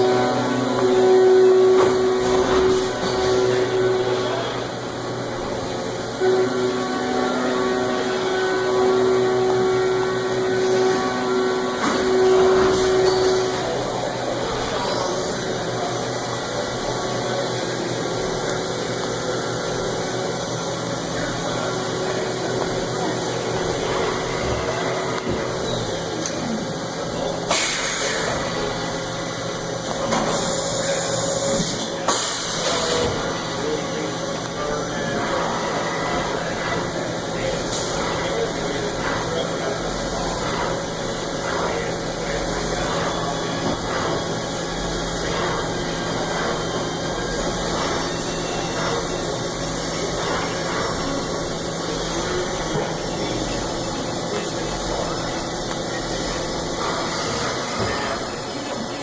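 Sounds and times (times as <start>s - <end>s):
machine motor whine: 0.0s - 59.0s.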